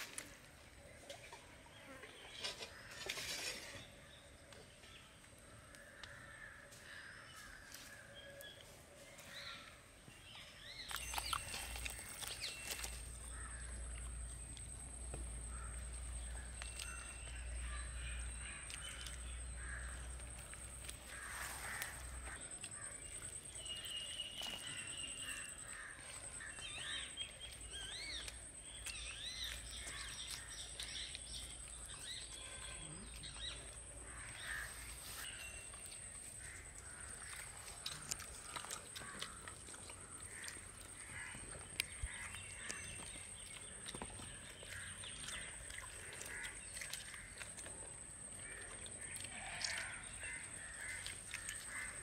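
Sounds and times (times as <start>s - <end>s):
birds chirping: 8.2s - 52.0s.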